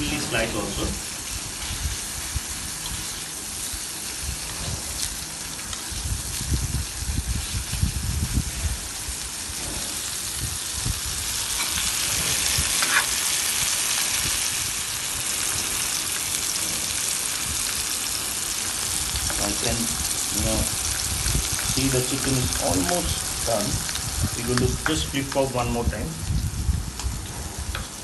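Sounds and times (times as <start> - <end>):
chicken sizzling in a hot pan: 0.0 - 28.0.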